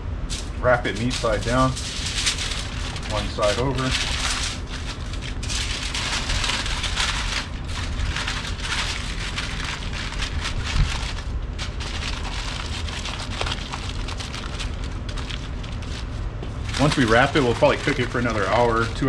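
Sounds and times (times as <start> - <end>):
steady low rumble: 0.0 - 19.0
aluminium foil crinkling: 0.3 - 19.0.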